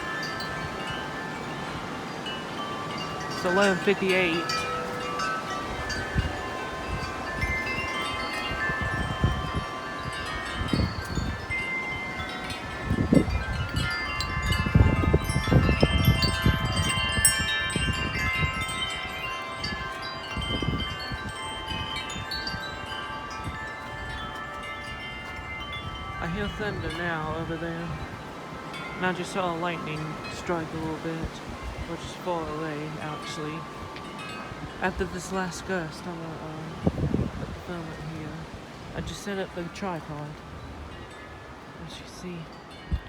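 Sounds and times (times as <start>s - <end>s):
metal wind chimes ringing: 0.0s - 43.0s
wind gusts on microphone: 0.0s - 43.0s.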